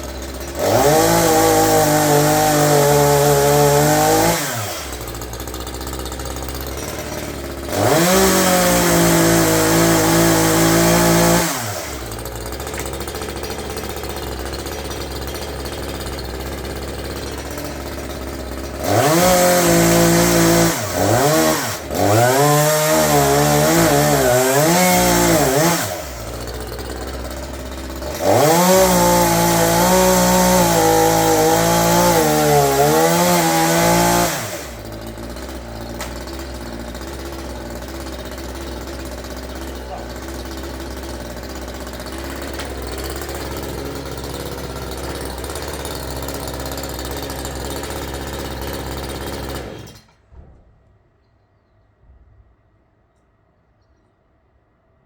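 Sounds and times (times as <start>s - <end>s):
chainsaw revving and idling: 0.0s - 50.2s.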